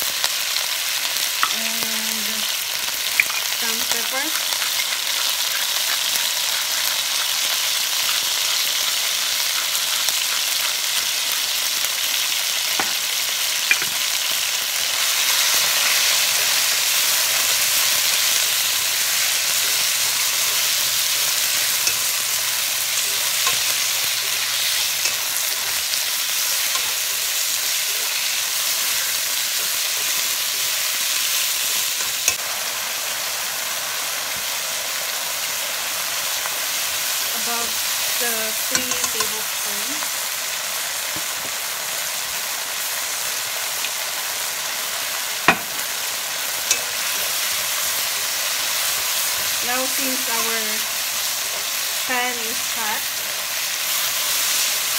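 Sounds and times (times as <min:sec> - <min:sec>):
chicken sizzling in a wok: 0:00.0 - 0:54.9.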